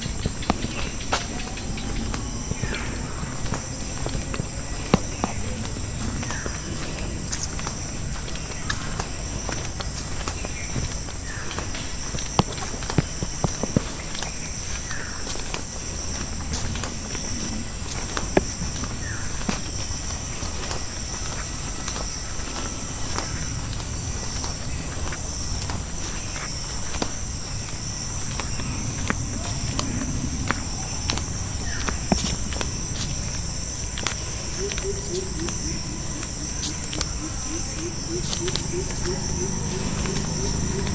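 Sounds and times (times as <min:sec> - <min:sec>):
footsteps: 0:00.0 - 0:40.9
insects chirping: 0:00.0 - 0:40.9.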